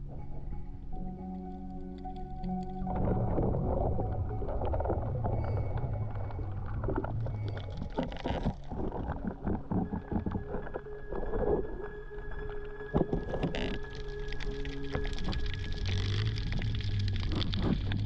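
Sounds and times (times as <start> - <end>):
low rumble: 0.0 - 18.0
underwater clicks and pops: 2.0 - 18.0
underwater rush of water: 2.9 - 18.0.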